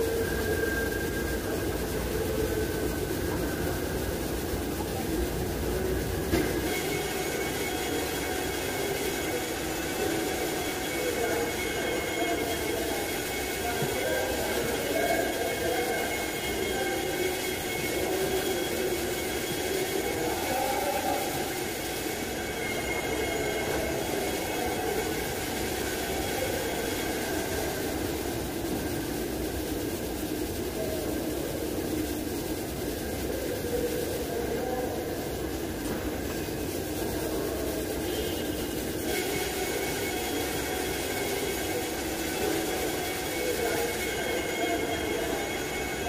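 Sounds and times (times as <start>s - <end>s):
faint high whine: 0.0s - 46.0s
faint steady tones: 0.0s - 46.0s
machine whirring: 0.0s - 46.0s.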